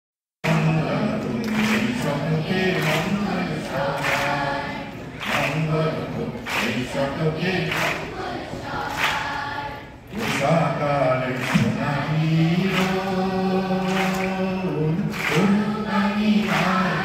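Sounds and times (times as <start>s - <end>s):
children's choir singing: 0.4s - 17.0s.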